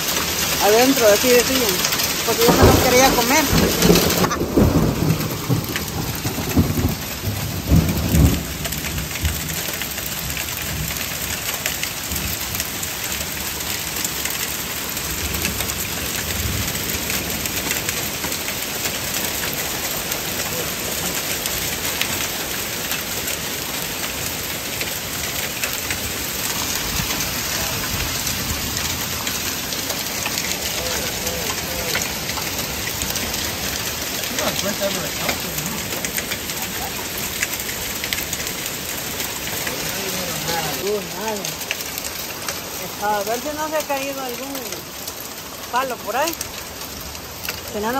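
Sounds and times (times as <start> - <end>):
heavy rain falling: 0.0 - 47.9
low thunder rumbles: 0.5 - 44.0.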